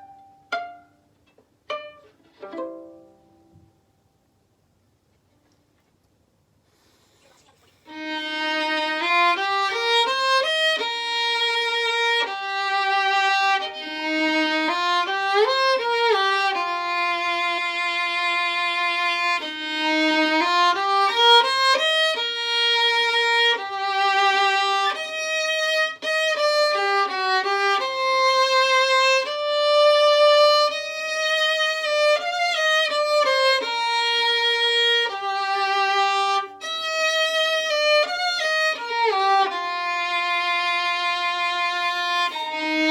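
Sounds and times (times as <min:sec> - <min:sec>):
solo violin slow melody: 0:00.0 - 0:03.6, 0:07.8 - 0:42.9.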